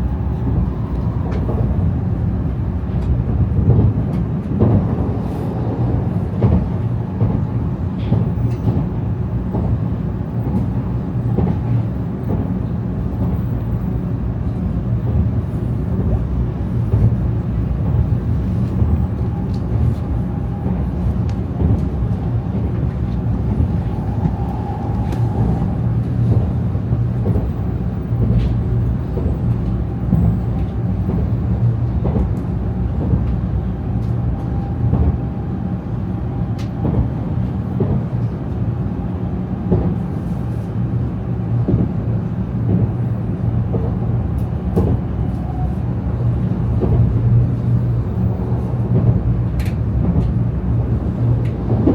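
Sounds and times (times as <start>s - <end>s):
train low rumble: 0.0s - 51.9s.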